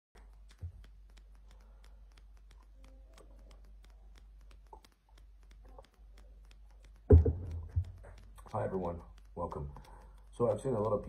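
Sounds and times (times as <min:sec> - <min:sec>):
light regular clicks: 0:00.1 - 0:11.0
soft small noises: 0:00.1 - 0:11.0.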